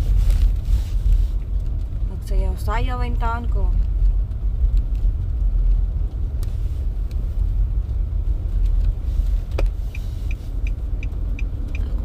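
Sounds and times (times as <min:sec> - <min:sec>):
car engine: 0:00.0 - 0:12.0
tyres on icy road: 0:00.0 - 0:12.0.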